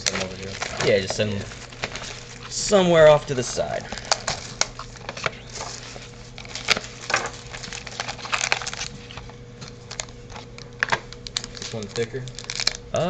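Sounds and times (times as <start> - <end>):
foil wrappers rustling: 0.0 - 13.0.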